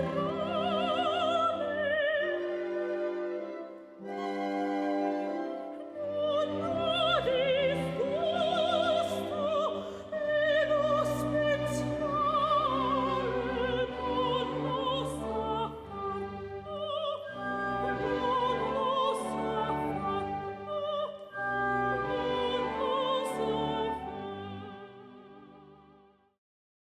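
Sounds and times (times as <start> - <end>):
operatic singing voice: 0.0 - 3.0, 5.9 - 25.4
sustained orchestral strings: 0.0 - 26.2.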